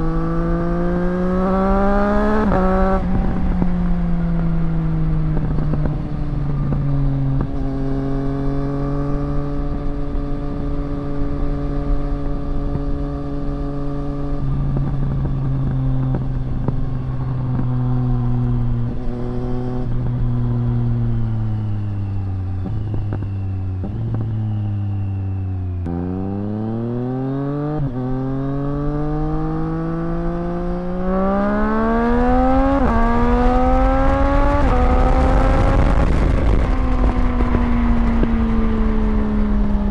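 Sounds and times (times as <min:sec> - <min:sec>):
motorcycle engine accelerating: 0:00.0 - 0:39.9
wind rumble: 0:00.0 - 0:39.9.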